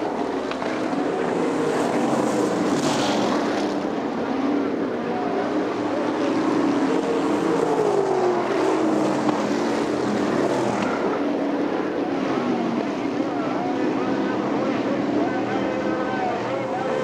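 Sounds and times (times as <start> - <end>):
race car engines at speed: 0.0 - 17.0.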